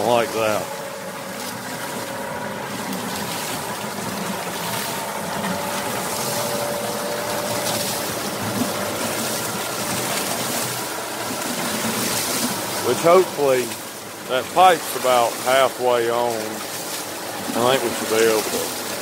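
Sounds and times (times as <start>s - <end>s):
water splashing onto water wheel: 0.0s - 19.0s.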